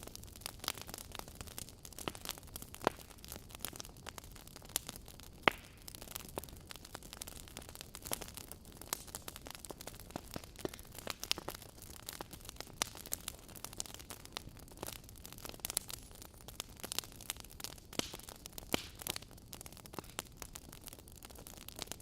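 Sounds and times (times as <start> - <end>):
low hiss of fire: 0.0 - 22.0
wood fire crackling: 0.0 - 22.0.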